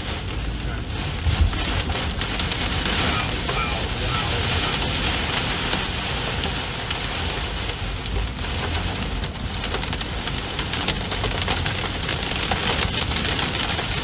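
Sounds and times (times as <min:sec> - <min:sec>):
heavy rain on car: 0:00.0 - 0:14.0.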